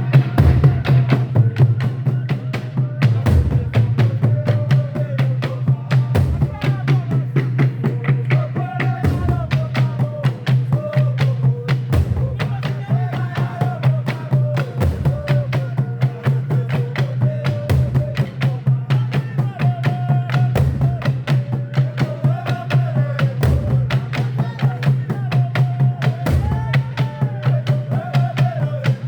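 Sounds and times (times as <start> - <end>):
fast drum strokes: 0.0 - 29.0.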